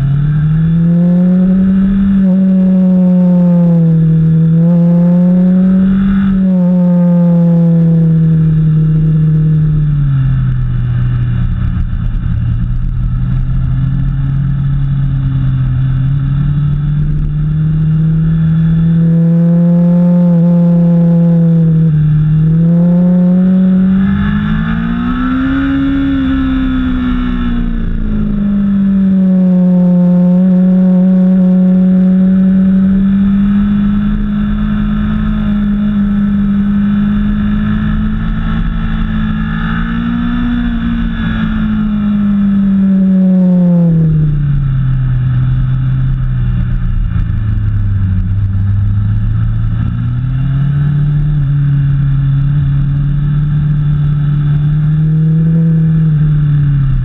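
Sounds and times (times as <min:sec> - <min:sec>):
vehicle engine running hard: 0:00.0 - 0:57.0.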